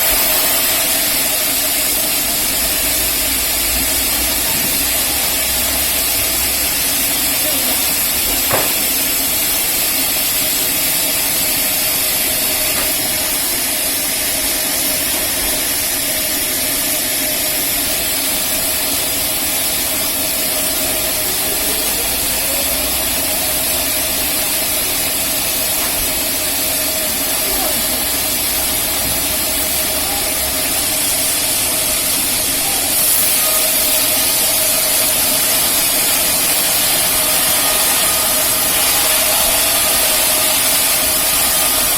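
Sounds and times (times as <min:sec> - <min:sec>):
band sawmill running: 0:00.0 - 0:41.9.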